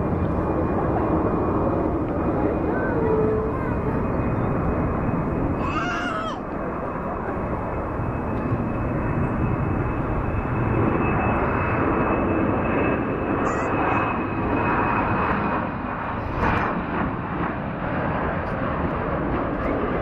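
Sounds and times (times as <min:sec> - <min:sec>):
high fan whine: 0:00.0 - 0:20.0
jet engine roar at takeoff: 0:00.0 - 0:20.0.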